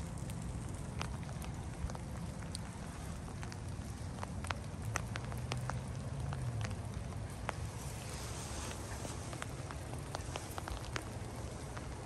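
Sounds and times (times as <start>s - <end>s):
rain pattering on leaves: 0.0s - 12.0s.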